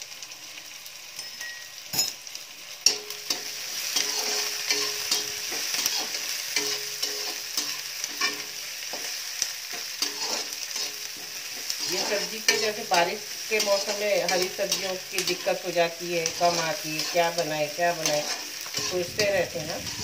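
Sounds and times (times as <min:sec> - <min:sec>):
onions sizzling in oil: 0:00.0 - 0:20.0
metal spatula scraping pan: 0:02.9 - 0:20.0.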